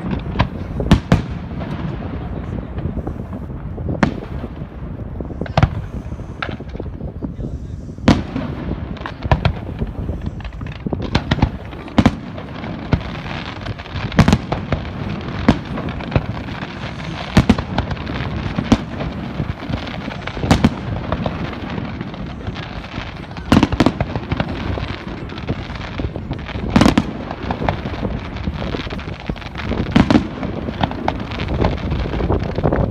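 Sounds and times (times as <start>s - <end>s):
firework crackling: 0.0s - 32.9s.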